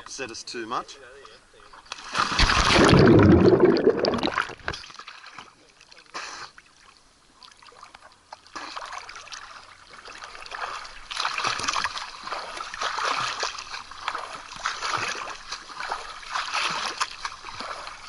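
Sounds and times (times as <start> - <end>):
water splashing: 1.6 - 18.0.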